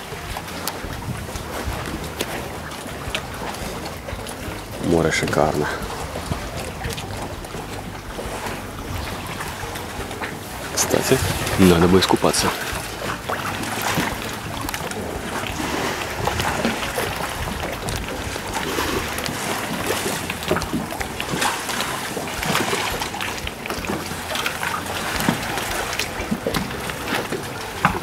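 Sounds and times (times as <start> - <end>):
water lapping against boat: 0.0 - 28.0
wind on microphone: 0.0 - 28.0.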